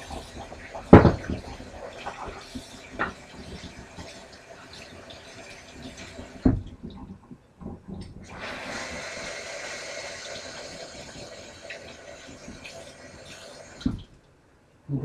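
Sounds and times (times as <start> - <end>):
water running from faucet into sink: 0.0 - 7.1, 8.1 - 14.2.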